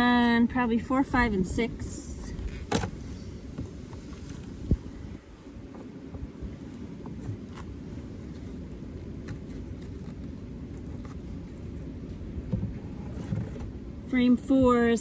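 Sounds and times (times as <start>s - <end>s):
wind rumbling on microphone: 0.0s - 14.9s.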